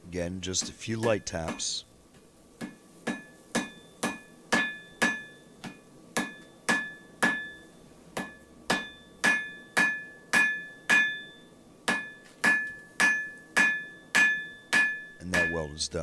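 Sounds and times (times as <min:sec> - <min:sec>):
hammer tapping on anvil: 0:02.6 - 0:15.8.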